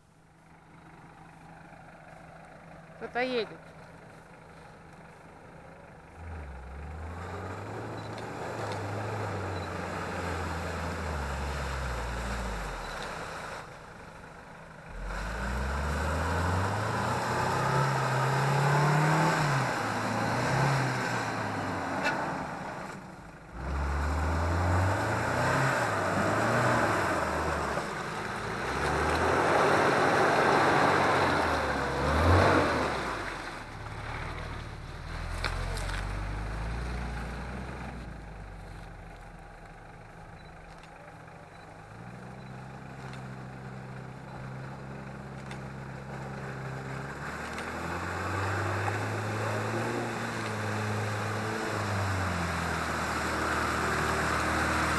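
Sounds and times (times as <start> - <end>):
off-road vehicle engine revving: 5.9 - 54.9.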